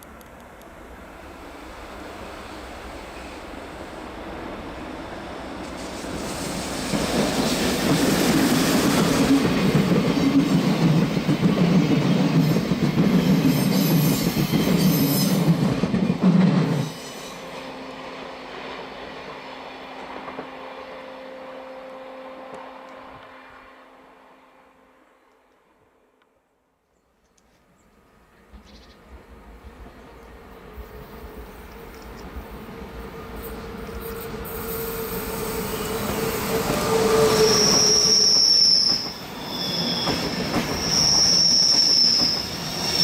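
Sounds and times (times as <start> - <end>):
train wheels on rails: 0.0 - 21.2, 28.5 - 43.0.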